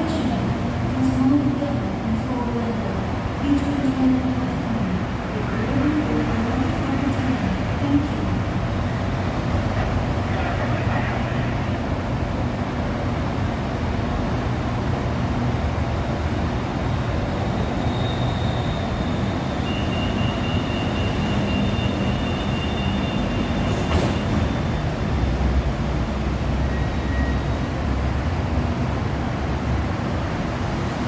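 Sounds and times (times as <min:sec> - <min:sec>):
monorail train rumbling: 0:00.0 - 0:31.0.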